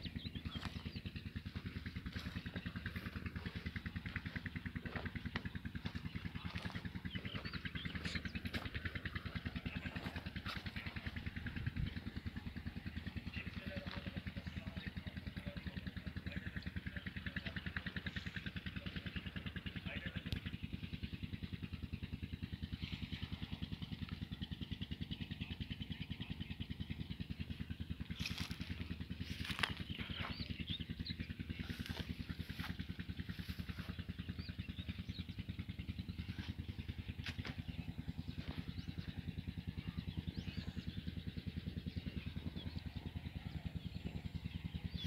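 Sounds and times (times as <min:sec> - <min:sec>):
tractor diesel engine idling: 0:00.0 - 0:45.0.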